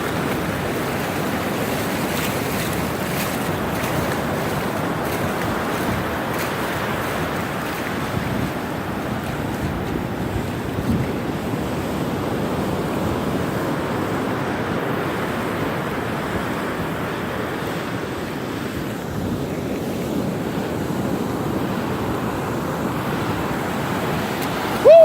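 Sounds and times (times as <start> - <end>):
storm surf breaking on beach: 0.0 - 25.0
wind blowing across microphone: 0.0 - 25.0.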